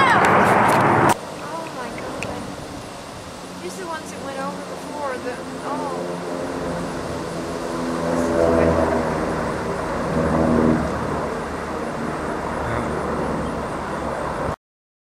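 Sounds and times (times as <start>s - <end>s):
airplane engines droning overhead: 0.0s - 14.6s.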